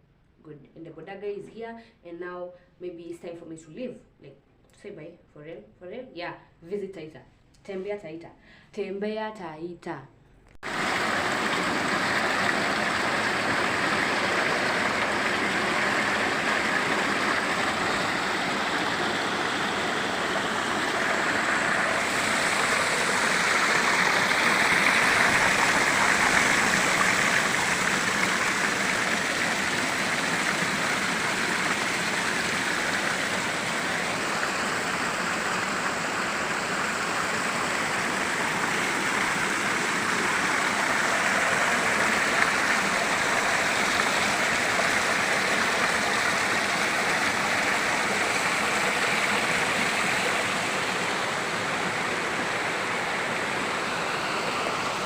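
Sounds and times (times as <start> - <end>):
waterfall rushing: 10.6 - 55.0.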